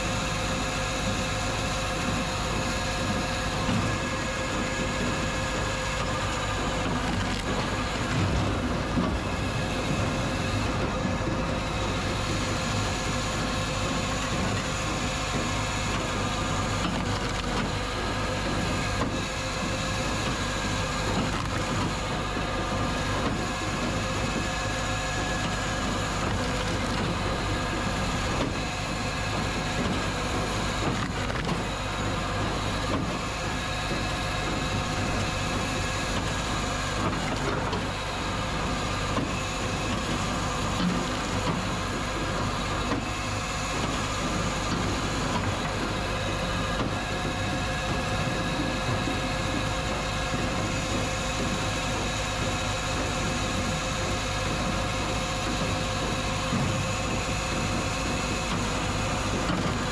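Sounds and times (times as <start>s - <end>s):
firewood processor machine drone: 0.0s - 59.9s.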